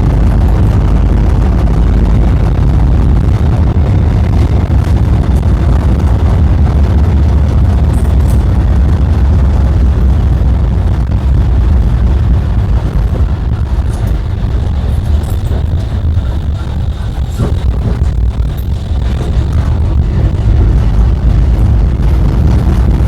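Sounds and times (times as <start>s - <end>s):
tram rumbling: 0.0s - 23.0s.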